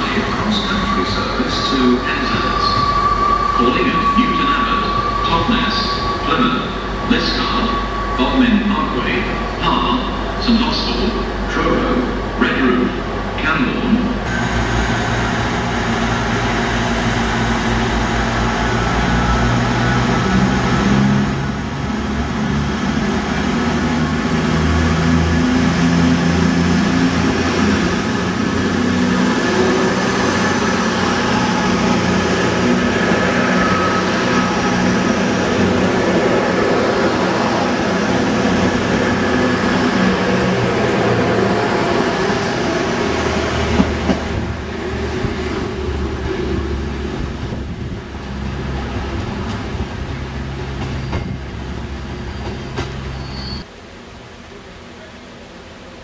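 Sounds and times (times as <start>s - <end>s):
diesel train engine humming: 0.0s - 56.0s
rail and wheel noise: 0.0s - 56.0s.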